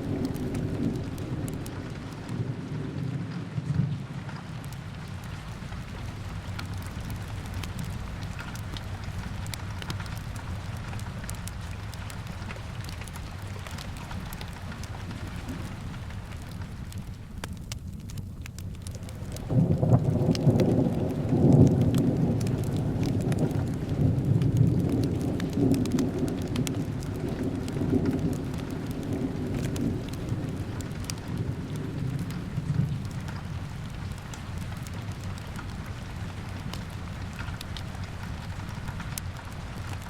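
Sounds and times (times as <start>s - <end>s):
rolling thunder rumble: 0.0s - 17.4s, 18.0s - 40.0s
fireplace crackles: 0.0s - 40.0s
steady rain: 0.0s - 40.0s.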